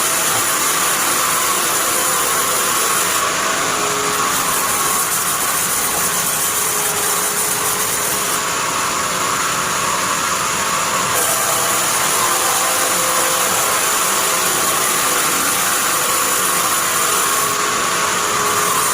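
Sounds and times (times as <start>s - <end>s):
bandsaw machine running: 0.0s - 18.9s.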